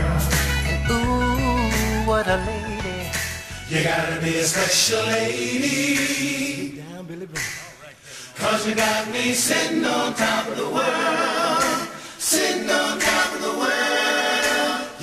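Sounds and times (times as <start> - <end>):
male vocal harmonies: 0.0 - 15.0.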